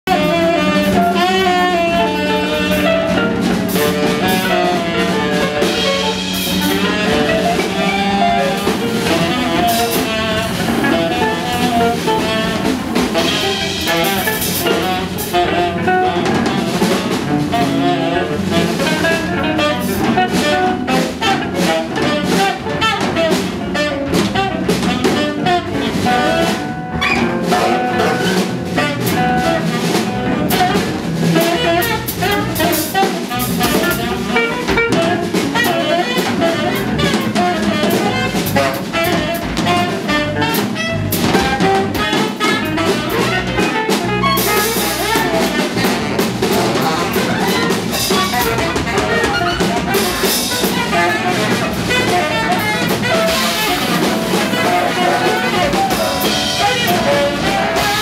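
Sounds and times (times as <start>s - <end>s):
drum kit: 0.0s - 58.0s
electric bass: 0.0s - 58.0s
saxophone: 0.0s - 58.0s
electric guitar: 0.1s - 58.0s.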